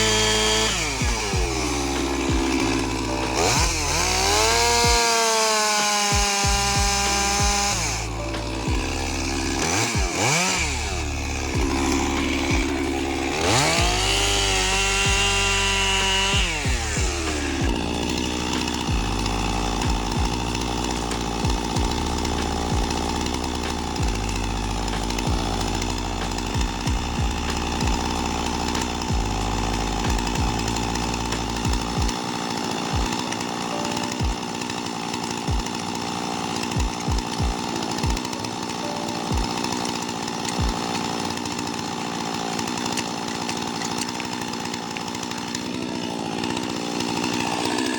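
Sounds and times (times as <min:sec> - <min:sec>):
chainsaw cutting tree trunk: 0:00.0 - 0:47.9.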